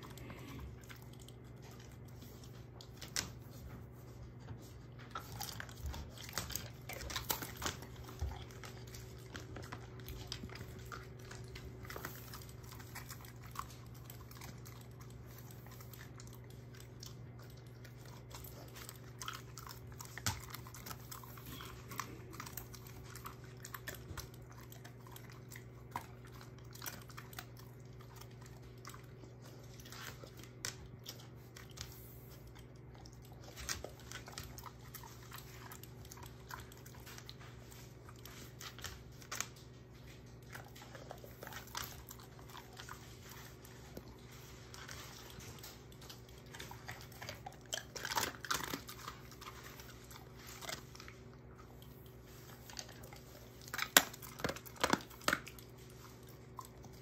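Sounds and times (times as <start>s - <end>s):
dog crunching treats: 0.0s - 57.0s.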